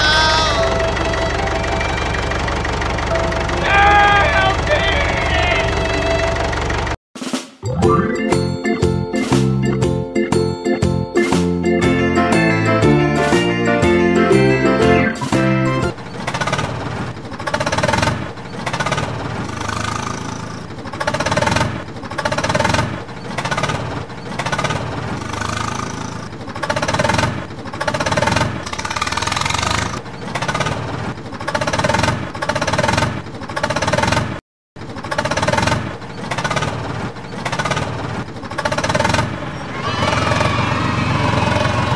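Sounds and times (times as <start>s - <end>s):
tractor engine chugging: 0.0s - 7.0s, 8.1s - 41.9s.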